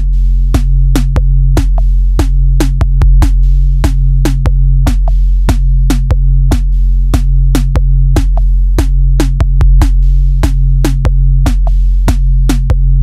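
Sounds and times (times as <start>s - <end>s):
drum machine beat: 0.0s - 13.0s
low bass: 0.0s - 13.0s.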